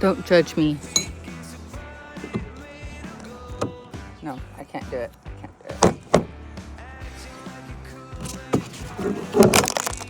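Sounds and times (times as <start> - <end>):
background music with low bass: 0.0 - 10.0.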